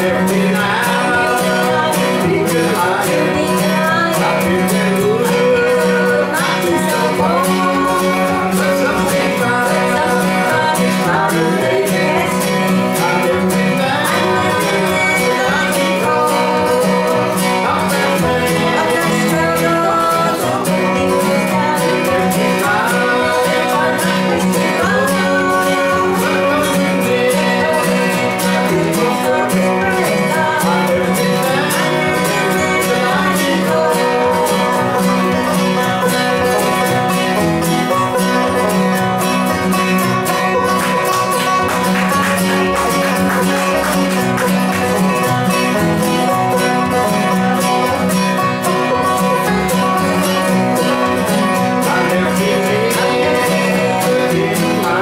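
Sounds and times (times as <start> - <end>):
acoustic guitars: 0.0 - 55.0
banjo: 0.0 - 55.0
upright bass: 0.0 - 55.0.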